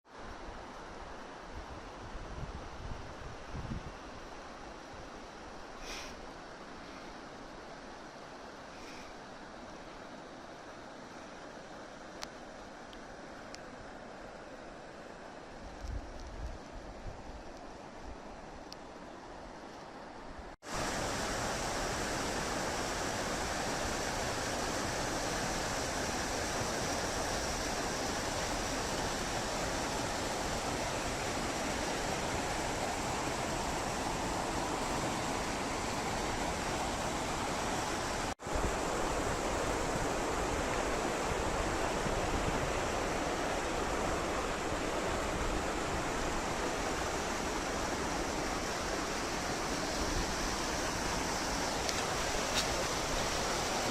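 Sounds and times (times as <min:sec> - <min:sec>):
river rushing over stones: 0:00.1 - 0:53.9.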